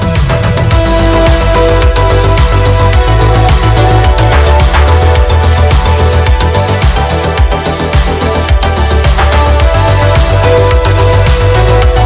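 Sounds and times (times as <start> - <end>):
electronic music with driving bass: 0.0 - 12.0.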